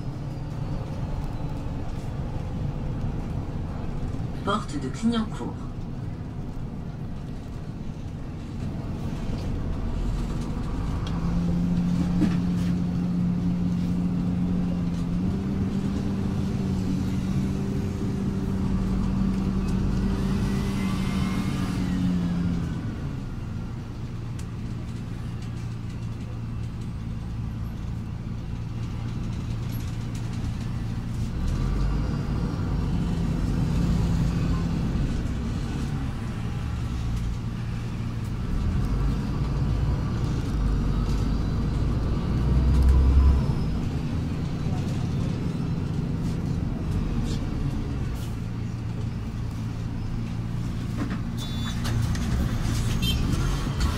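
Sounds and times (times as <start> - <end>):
bus engine hum: 0.0 - 53.9.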